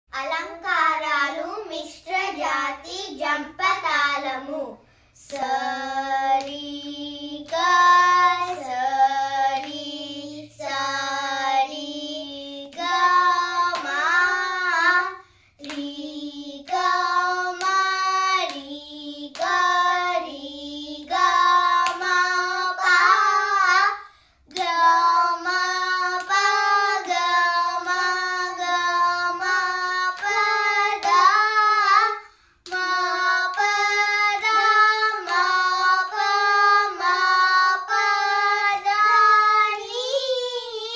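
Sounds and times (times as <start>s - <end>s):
girls singing syllables: 2.2s - 40.9s.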